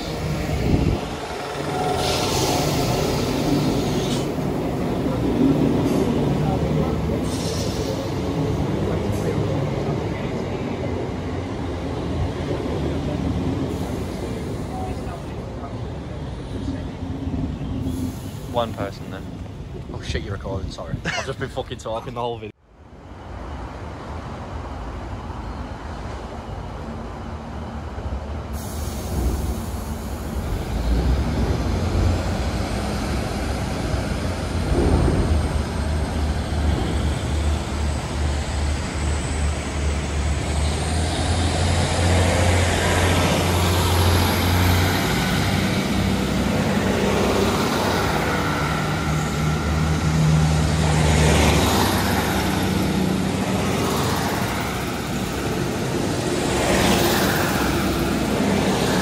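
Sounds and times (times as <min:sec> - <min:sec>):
train low drone: 0:00.0 - 0:20.6, 0:22.6 - 0:59.0.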